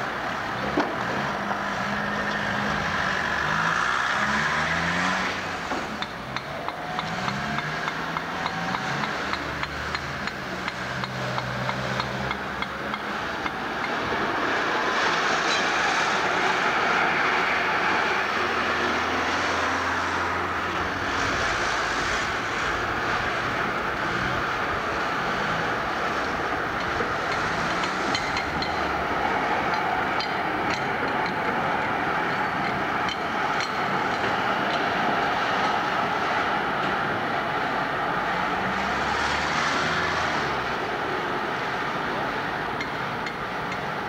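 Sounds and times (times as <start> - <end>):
city traffic: 0.0 - 44.0
sharp clicks of tram wheels: 0.0 - 44.0
tram running on track: 0.0 - 44.0.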